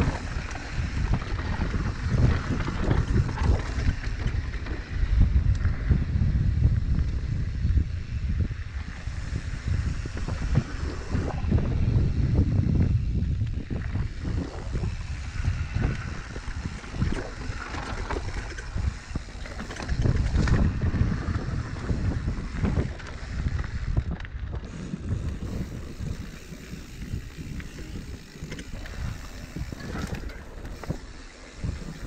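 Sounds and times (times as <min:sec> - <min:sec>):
bike knocking and rattling: 0:00.0 - 0:32.0
bike tyres rumbling over dirt: 0:00.0 - 0:32.0
wind buffeting microphone: 0:00.0 - 0:32.0.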